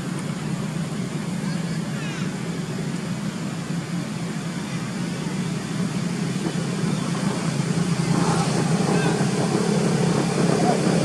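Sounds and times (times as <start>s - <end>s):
low drone of outdoor background noise: 0.0s - 11.0s.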